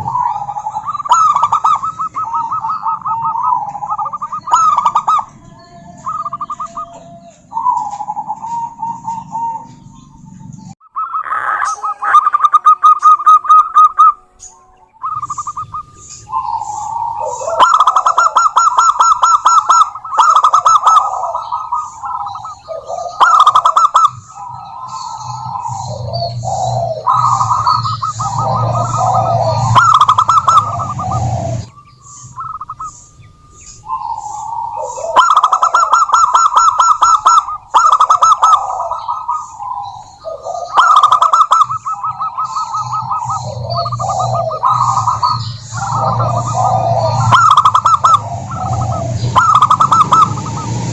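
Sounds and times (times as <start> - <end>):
doves trilled cooing: 0.0 - 50.9.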